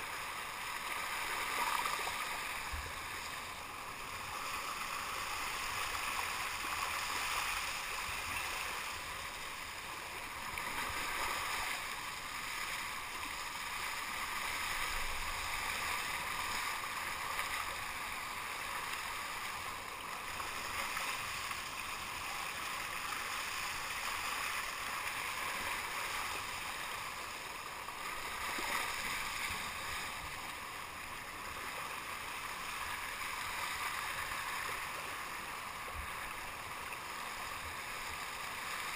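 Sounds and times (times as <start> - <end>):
water rushing along kayak hull: 0.0 - 38.9.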